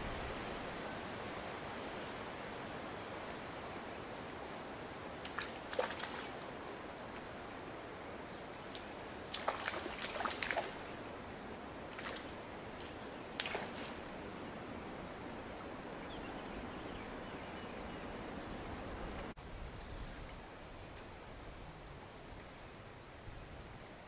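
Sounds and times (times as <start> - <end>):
stream flowing: 0.0 - 19.4.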